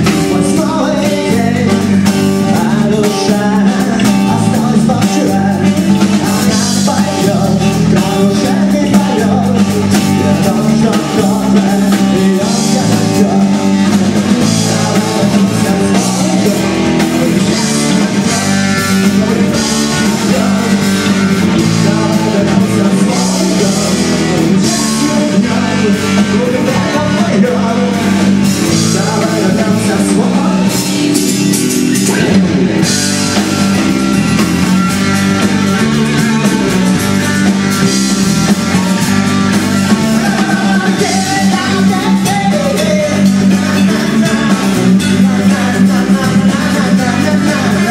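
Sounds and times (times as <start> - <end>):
drum kit: 0.0 - 47.9
electric bass: 0.0 - 47.9
electric guitars: 0.0 - 47.9.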